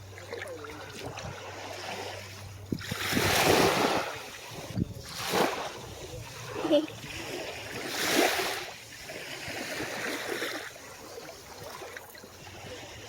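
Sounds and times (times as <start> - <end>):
sea waves washing onto shore: 0.0 - 13.0.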